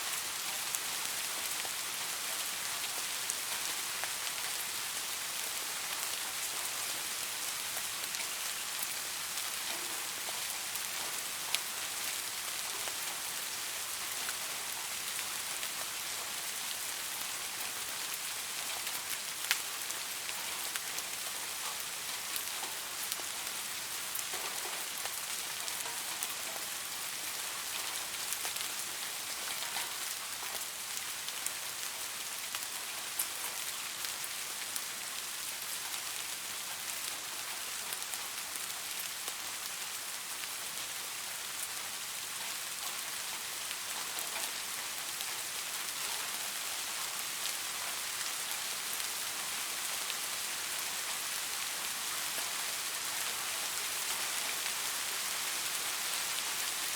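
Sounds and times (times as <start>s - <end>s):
light rain hiss: 0.0s - 56.9s
raindrops ticking on surface: 7.4s - 13.4s, 14.0s - 56.9s.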